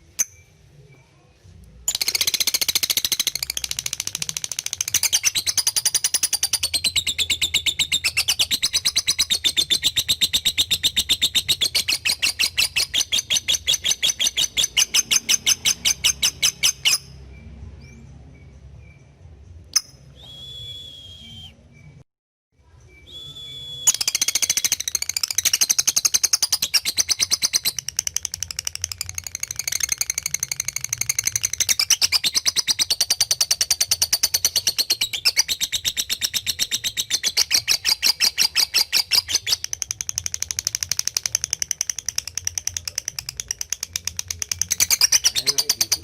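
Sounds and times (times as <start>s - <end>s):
lovebird high chattering: 1.9s - 17.2s, 23.9s - 46.0s.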